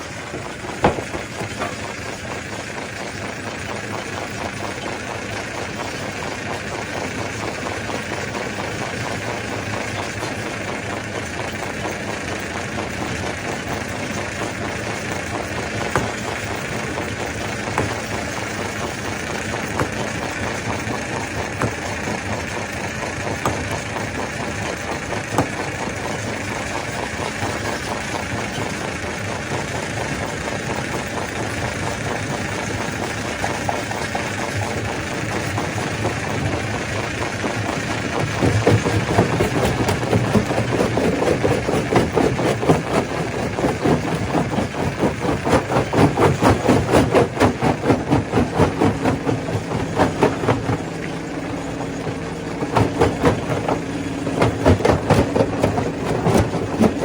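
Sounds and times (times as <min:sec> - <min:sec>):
stone crusher machine din: 0:00.0 - 0:29.6, 0:30.6 - 0:57.0.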